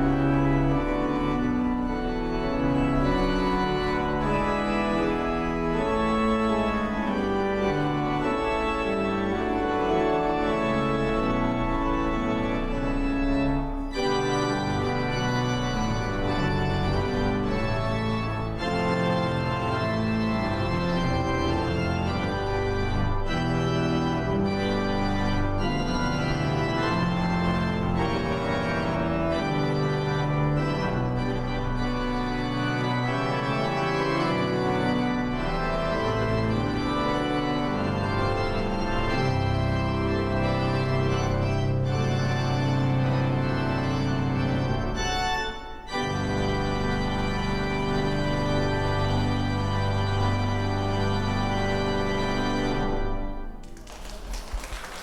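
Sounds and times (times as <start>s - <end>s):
church organ music: 0.0s - 55.0s.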